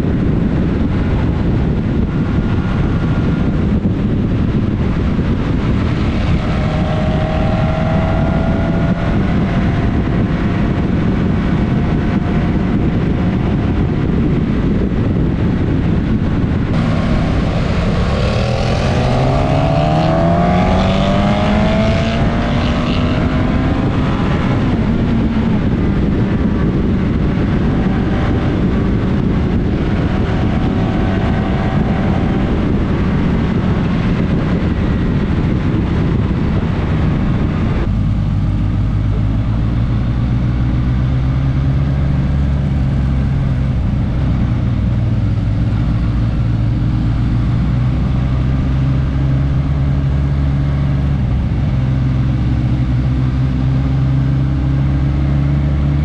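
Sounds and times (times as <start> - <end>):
motorcycle engine running: 0.0 - 56.0
wind rushing over helmet: 0.0 - 56.0.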